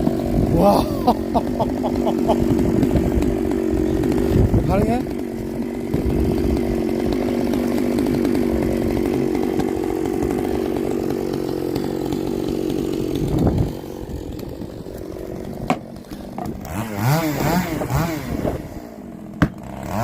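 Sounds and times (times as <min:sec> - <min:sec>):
chainsaw engine running hard: 0:00.0 - 0:20.0.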